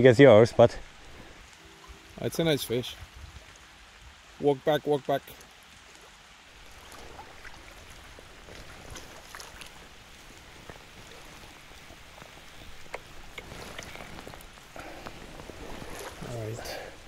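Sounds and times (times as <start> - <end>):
rain drops ticking: 0.0 - 17.0
soft hiss of water: 0.0 - 17.0.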